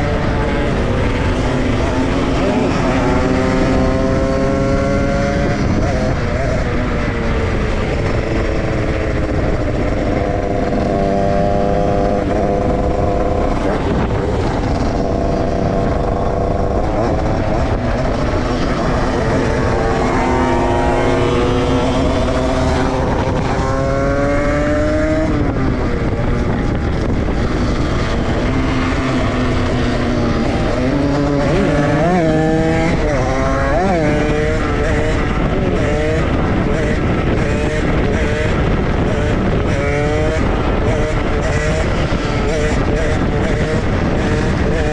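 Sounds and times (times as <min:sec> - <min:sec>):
dirt bike engine accelerating: 0:00.0 - 0:44.9
dirt bike engine revving: 0:00.0 - 0:44.9.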